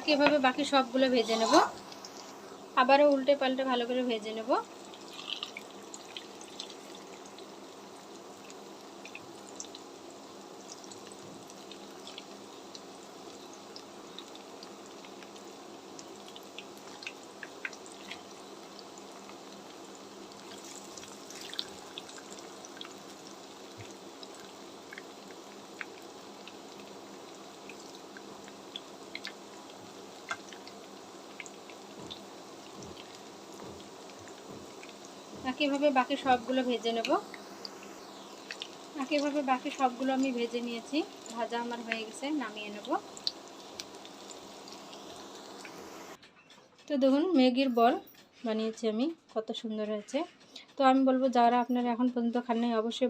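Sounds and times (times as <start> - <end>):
deep-frying sizzle with pops: 0.0 - 53.0.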